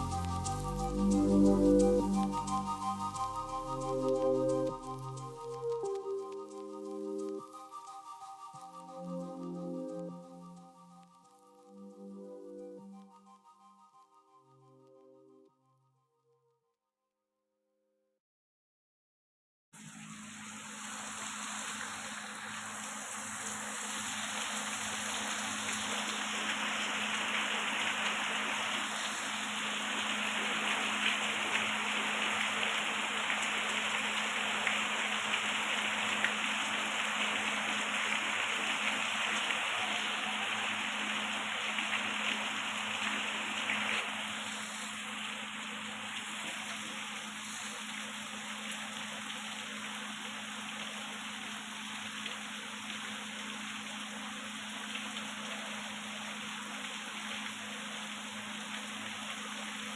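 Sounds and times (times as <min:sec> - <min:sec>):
rushing water: 0:00.0 - 0:10.4, 0:19.8 - 0:59.9.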